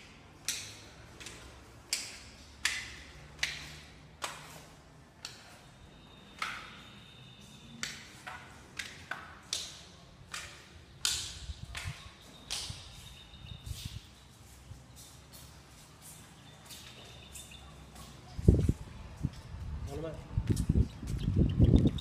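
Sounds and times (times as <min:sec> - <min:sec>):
footsteps on tiled floor: 0:00.0 - 0:19.8.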